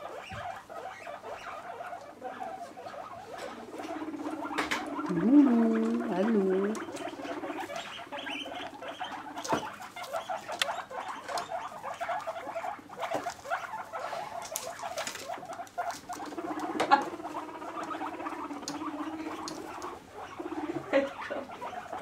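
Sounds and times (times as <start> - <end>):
guinea pig rumbling purr: 0.0 - 22.0
guinea pigs squeaking: 0.0 - 22.0.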